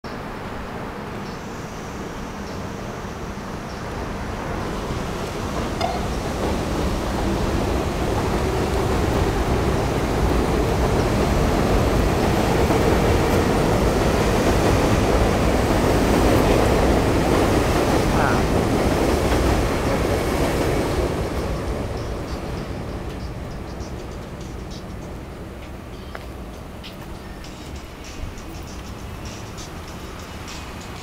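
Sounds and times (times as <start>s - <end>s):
elevated train rumble: 0.1s - 31.0s.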